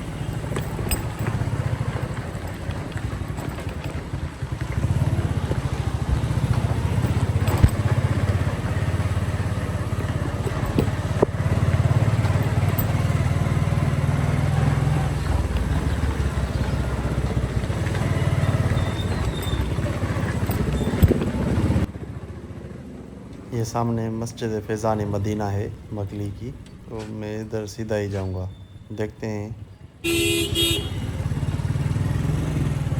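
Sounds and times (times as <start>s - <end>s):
motorcycle engine rumbling: 0.0s - 32.9s.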